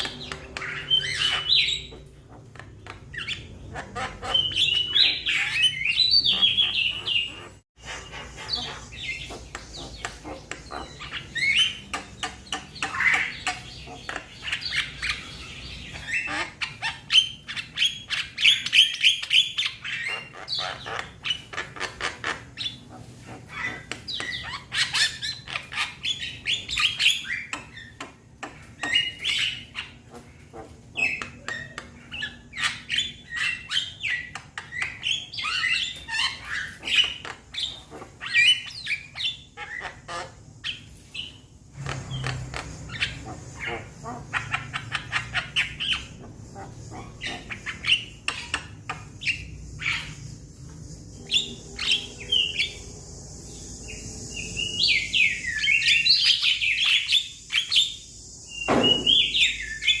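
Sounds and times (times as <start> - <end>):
mynas chirping and squawking: 0.0 - 60.0.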